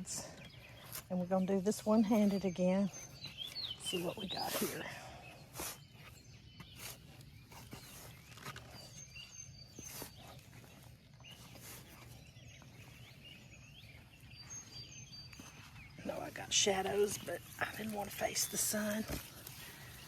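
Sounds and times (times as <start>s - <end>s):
small birds chirping: 0.0s - 20.0s
soil being dug by hand: 0.0s - 20.0s.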